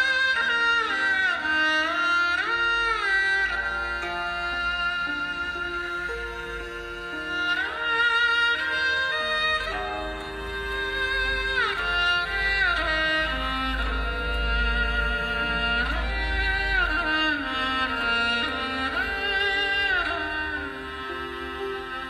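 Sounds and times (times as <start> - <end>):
bowed string instrument sliding notes: 0.0 - 22.0.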